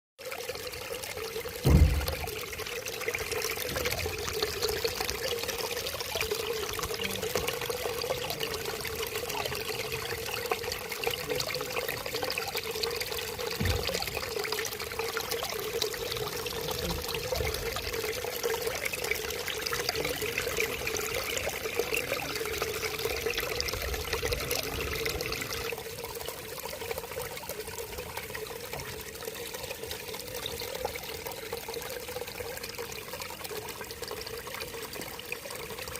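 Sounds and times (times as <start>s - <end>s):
water running and splashing: 0.2s - 35.9s.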